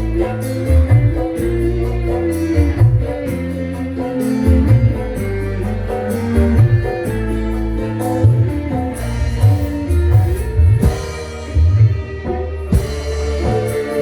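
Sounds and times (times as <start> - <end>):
music with heavy bass over pa: 0.0 - 14.0.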